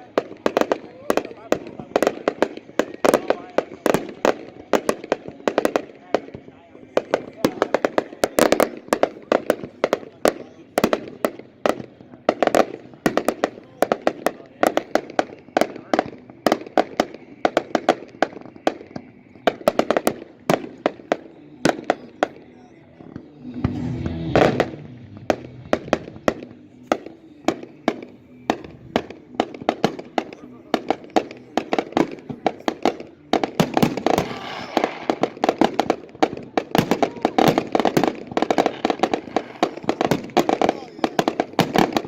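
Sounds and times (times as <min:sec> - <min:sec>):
fireworks bangs and cracks: 0:00.0 - 0:42.0.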